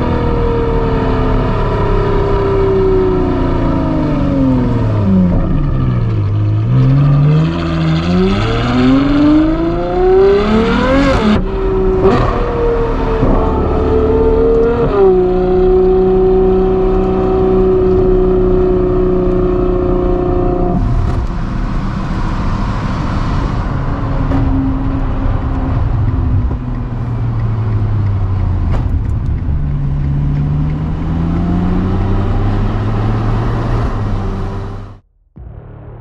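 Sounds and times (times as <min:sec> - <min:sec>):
car engine revving: 0:00.0 - 0:36.0
road noise: 0:00.0 - 0:36.0.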